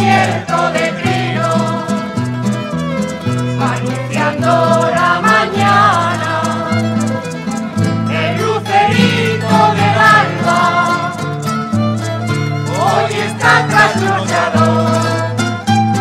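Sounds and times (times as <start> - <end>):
guitars and lutes strumming: 0.0 - 16.0
violin melody: 0.0 - 16.0.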